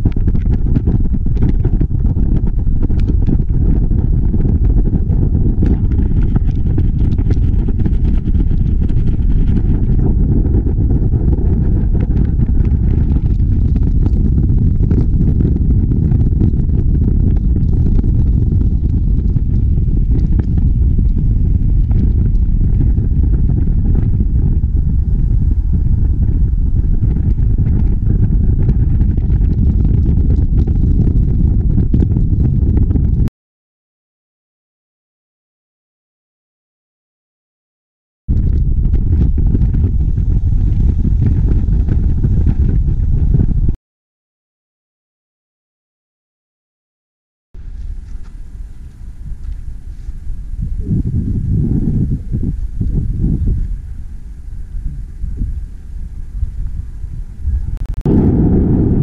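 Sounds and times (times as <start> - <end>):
wind buffeting a microphone: 0.0 - 33.3, 38.3 - 43.8, 47.6 - 59.0.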